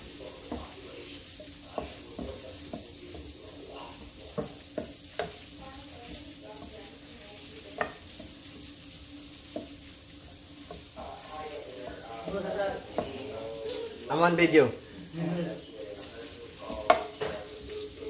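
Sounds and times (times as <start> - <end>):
spatula tapping and scraping pan: 0.0 - 13.8, 16.6 - 17.8
sauce sizzling in a frying pan: 0.0 - 18.0.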